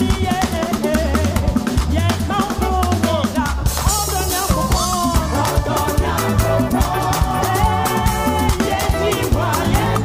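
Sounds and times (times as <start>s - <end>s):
deep bass notes: 0.0s - 10.0s
drum kit: 0.0s - 10.0s
keyboard: 0.0s - 10.0s.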